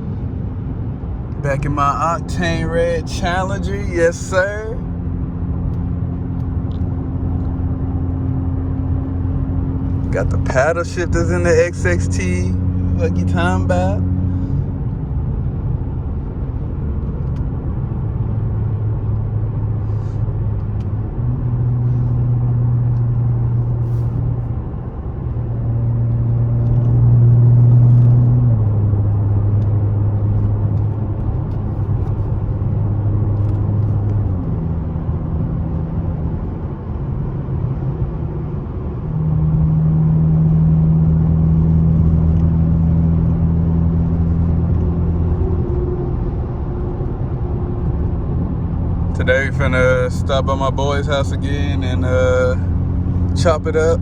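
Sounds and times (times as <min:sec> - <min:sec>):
car exhaust drone while driving: 0:00.0 - 0:54.0.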